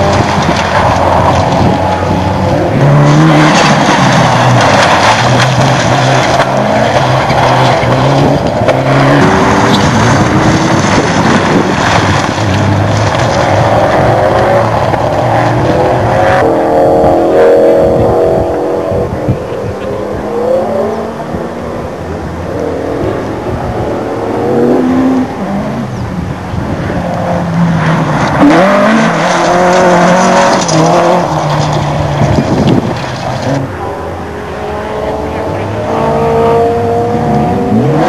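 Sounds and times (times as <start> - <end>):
rally car engines revving past: 0.0 - 38.0.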